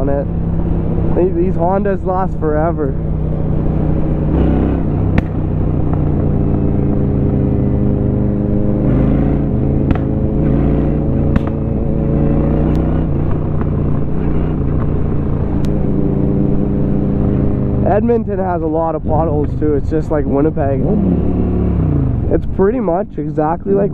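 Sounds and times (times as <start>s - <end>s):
motorcycle engine cruising: 0.0s - 23.9s.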